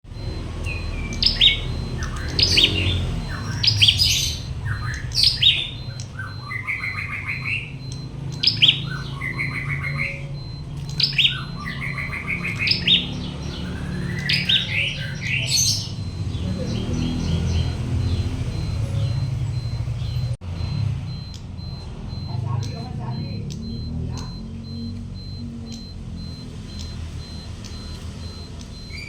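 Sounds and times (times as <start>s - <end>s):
bird singing sharp chirps and trill: 0.1s - 20.4s, 21.1s - 29.0s.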